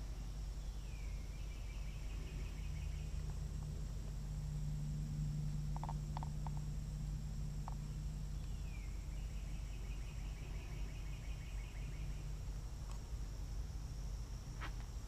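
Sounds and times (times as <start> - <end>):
insects droning: 0.0 - 15.0
low rumble: 0.0 - 15.0.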